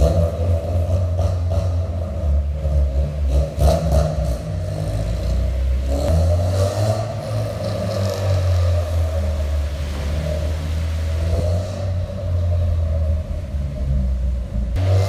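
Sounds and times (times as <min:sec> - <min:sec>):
car engine droning through exhaust: 0:00.0 - 0:15.0.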